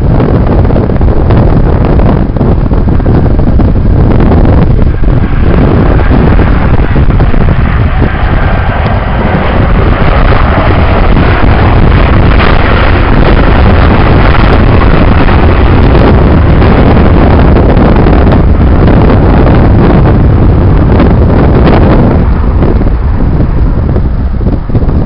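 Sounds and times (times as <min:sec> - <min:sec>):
jet airliner roar: 0:00.0 - 0:25.0
wind buffeting microphone: 0:00.0 - 0:25.0.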